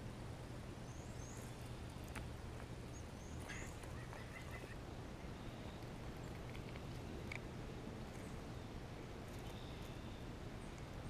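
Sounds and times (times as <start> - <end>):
low outdoor hum: 0.0 - 11.0
small birds chirping: 0.0 - 11.0.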